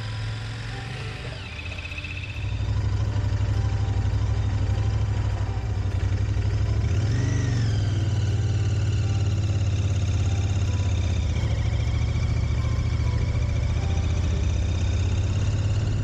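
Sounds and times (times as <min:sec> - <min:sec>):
high arching tone: 0:00.0 - 0:16.0.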